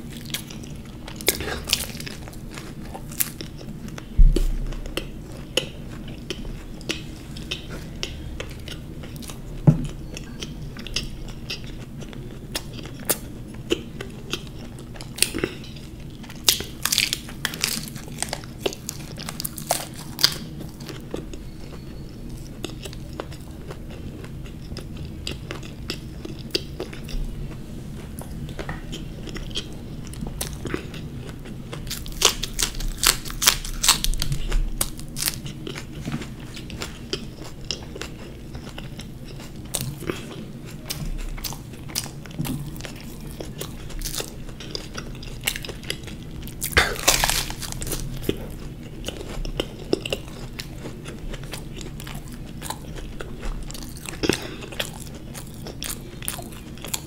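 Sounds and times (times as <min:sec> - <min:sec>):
chewing crunchy pastry: 0:00.0 - 0:57.0.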